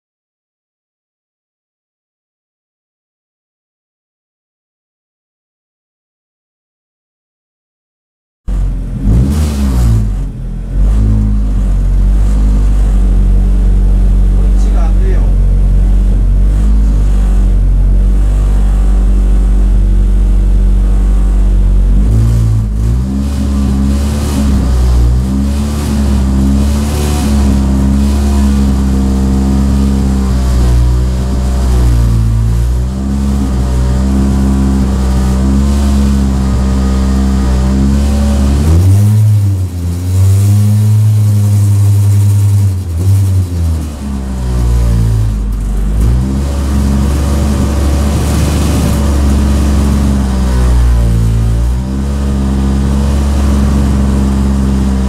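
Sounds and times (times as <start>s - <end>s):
race car engine running: 8.5s - 55.0s.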